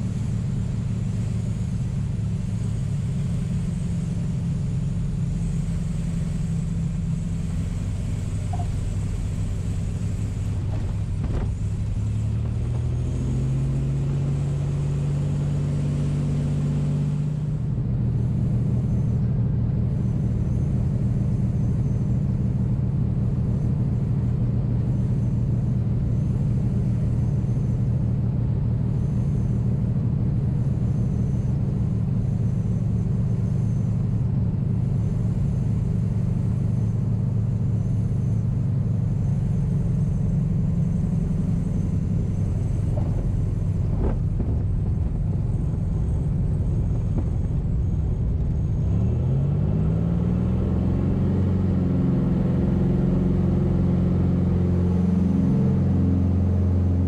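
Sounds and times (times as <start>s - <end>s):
aircraft engine and propeller droning: 0.0s - 57.0s.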